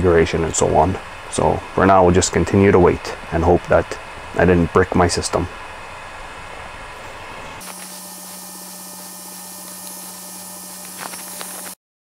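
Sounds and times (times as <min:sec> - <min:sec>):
cooling fans whirring: 0:00.0 - 0:11.8
faint high whine: 0:00.0 - 0:11.8
low hum: 0:00.0 - 0:11.8.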